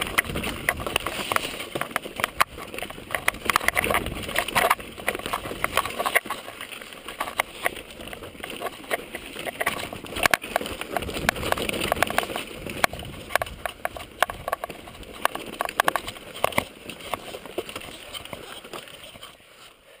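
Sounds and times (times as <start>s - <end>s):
footsteps on stony path: 0.0s - 20.0s.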